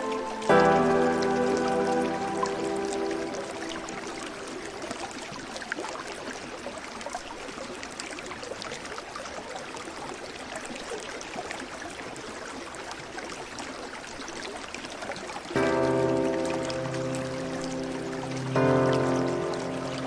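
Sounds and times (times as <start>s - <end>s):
small splashes and trickles: 0.0s - 20.0s
stream water rushing: 0.0s - 20.0s.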